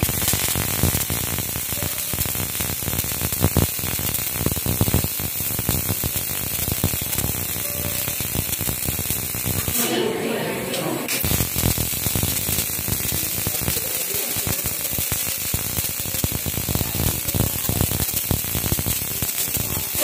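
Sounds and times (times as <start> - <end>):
welding arc crackling and buzzing: 0.0 - 20.0.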